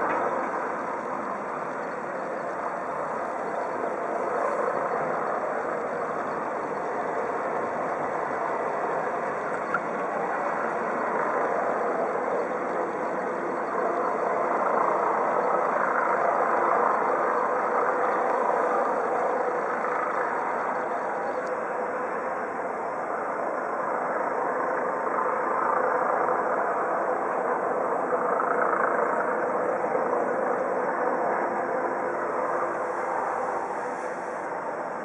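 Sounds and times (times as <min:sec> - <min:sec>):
helicopter rotor whirr: 0:00.0 - 0:35.0.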